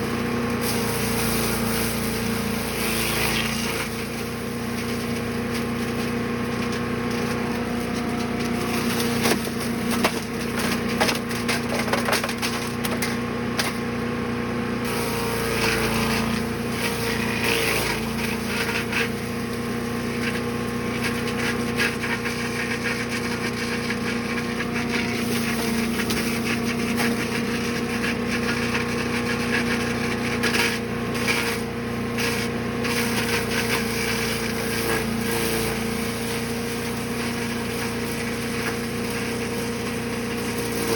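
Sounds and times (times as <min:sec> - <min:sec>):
chipper engine running: 0:00.0 - 0:40.9.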